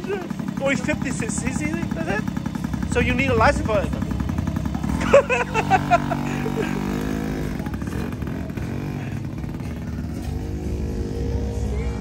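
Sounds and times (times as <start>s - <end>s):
background music: 0.0s - 12.0s
motorcycle engine running: 0.0s - 12.0s.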